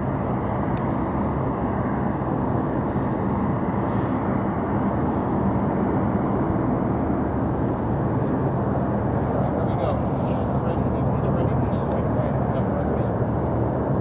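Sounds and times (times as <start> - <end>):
air noise: 0.0 - 14.0
propeller engines droning: 0.0 - 14.0.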